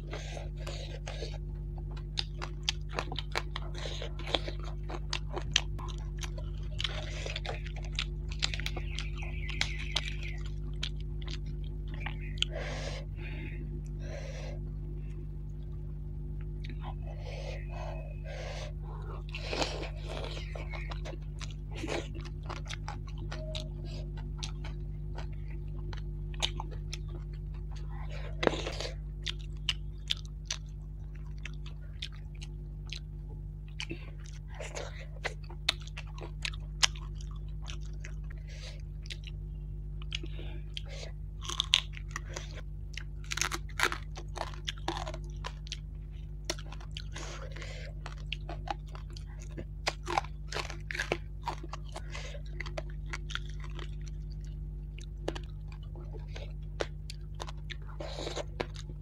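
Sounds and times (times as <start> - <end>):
chewing and crunching: 0.0 - 59.0
steady low hum: 0.0 - 59.0.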